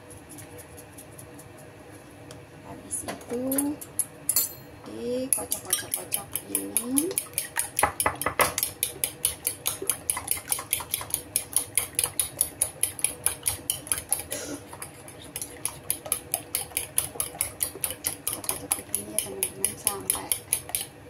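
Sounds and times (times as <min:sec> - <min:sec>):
utensil beating eggs in bowl: 0:00.0 - 0:02.1, 0:03.0 - 0:04.1, 0:04.9 - 0:21.0.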